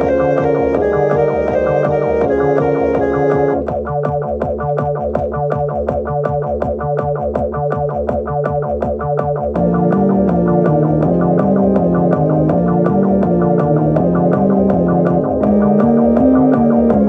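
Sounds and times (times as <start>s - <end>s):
effects-laden guitar and bass: 0.0s - 17.0s.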